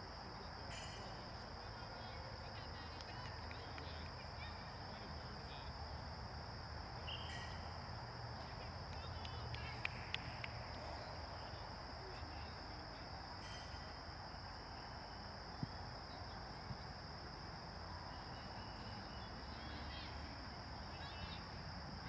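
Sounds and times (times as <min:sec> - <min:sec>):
distant children's voices: 0:00.2 - 0:22.0.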